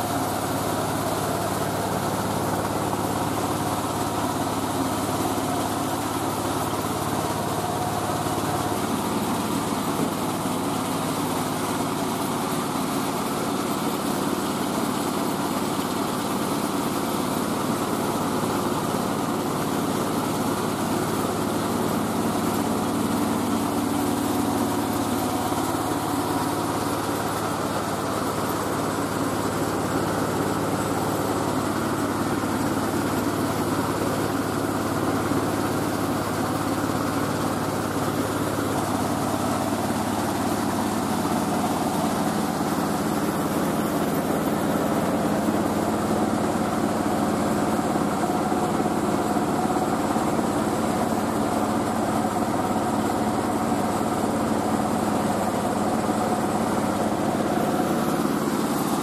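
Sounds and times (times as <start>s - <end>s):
rice-milling machine humming: 0.0s - 59.0s.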